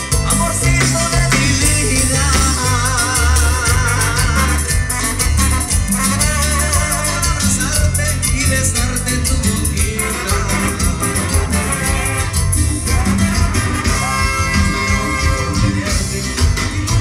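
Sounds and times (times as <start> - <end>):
latin dance band playing: 0.0 - 17.0.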